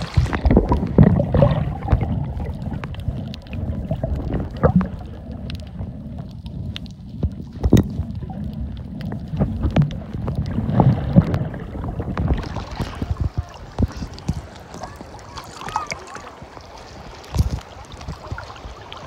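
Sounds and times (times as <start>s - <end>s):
muffled water rumble and sloshing: 0.0s - 19.0s.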